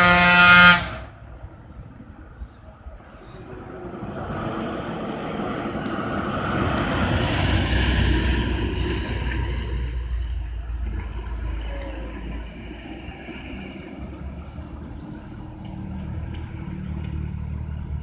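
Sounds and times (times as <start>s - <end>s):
bus diesel engine passing: 0.0s - 18.0s.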